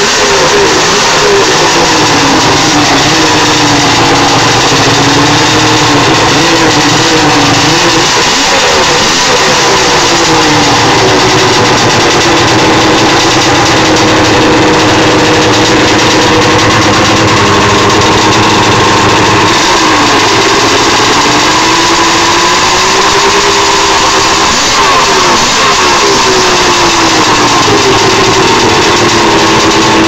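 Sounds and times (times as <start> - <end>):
snowmobile engine idling fast: 0.0 - 30.0.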